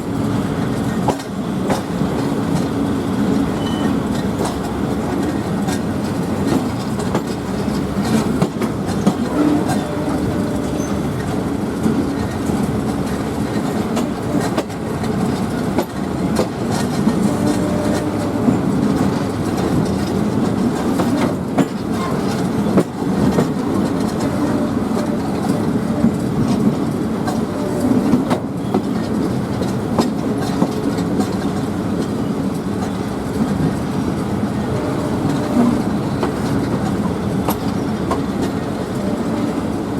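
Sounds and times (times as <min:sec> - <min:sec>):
train rumbling on rails: 0:00.0 - 0:39.9
wheels clacking over rail joints: 0:00.6 - 0:39.9.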